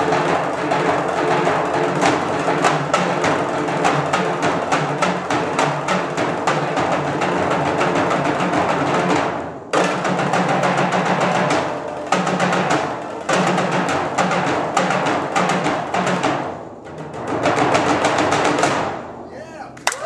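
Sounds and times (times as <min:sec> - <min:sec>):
rapid percussion drumming: 0:00.0 - 0:20.0.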